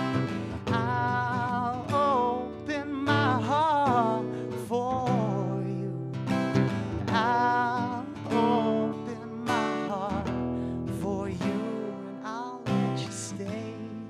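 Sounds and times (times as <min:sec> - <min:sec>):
acoustic guitar strumming: 0:00.0 - 0:14.0
man singing with vibrato: 0:00.0 - 0:14.0.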